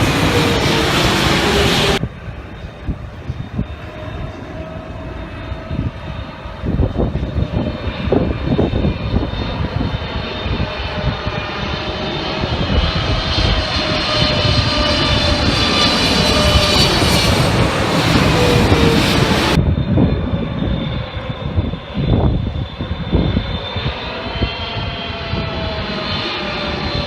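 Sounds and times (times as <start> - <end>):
large engine rumbling with whine: 0.0 - 27.0.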